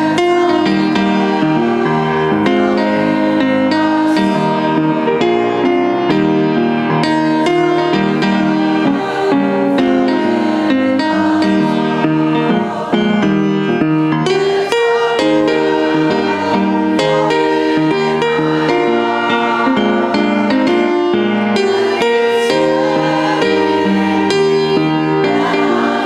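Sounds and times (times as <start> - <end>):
instrumental music with held chords: 0.0 - 26.0.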